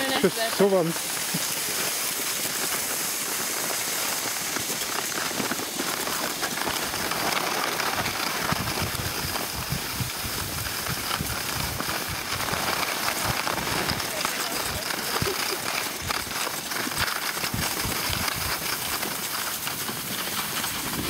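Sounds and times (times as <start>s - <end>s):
skis sliding over snow: 0.0s - 21.0s
wind rumbling on microphone: 0.0s - 21.0s.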